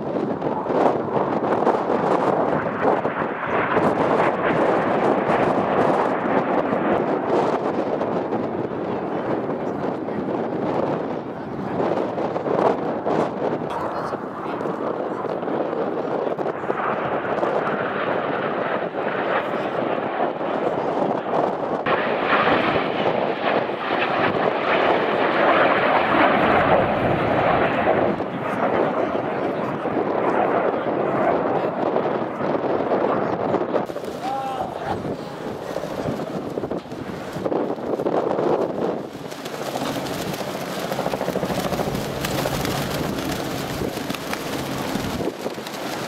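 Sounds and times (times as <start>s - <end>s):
jet engines rushing: 0.0s - 46.0s
helicopters flying past: 0.3s - 12.4s, 13.3s - 46.0s.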